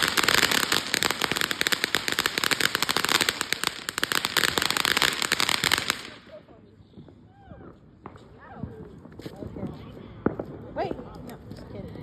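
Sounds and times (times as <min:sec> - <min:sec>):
firecrackers cracking and popping: 0:00.0 - 0:11.8.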